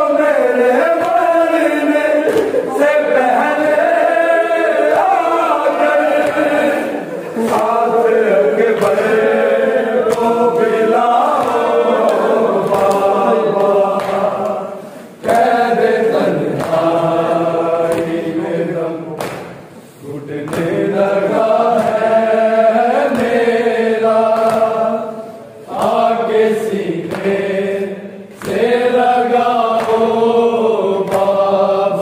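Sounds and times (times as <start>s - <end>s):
group chanting a lament: 0.0s - 32.0s.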